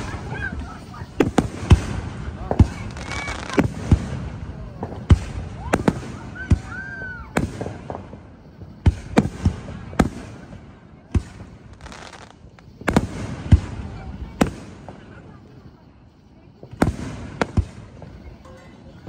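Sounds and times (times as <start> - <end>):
firework shells bursting: 0.0 - 15.8.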